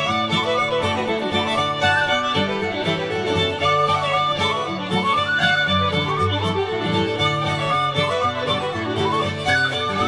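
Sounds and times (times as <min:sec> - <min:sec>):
fiddle-led instrumental music: 0:00.0 - 0:10.0.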